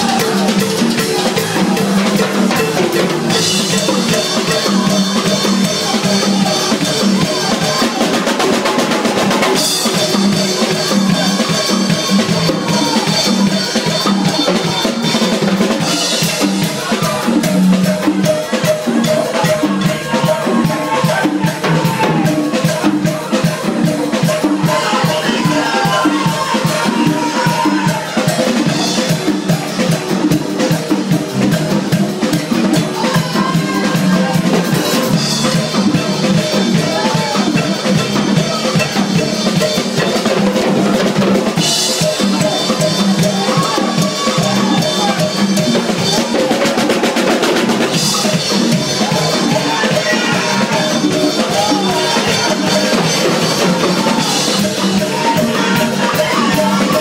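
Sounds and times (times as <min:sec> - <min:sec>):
band playing congas and drums: 0:00.0 - 0:57.0.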